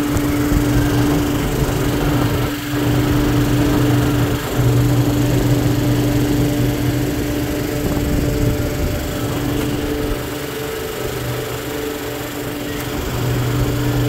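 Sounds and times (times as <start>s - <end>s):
air rushing through coil: 0.0s - 14.0s
fan motor hum: 0.0s - 14.0s.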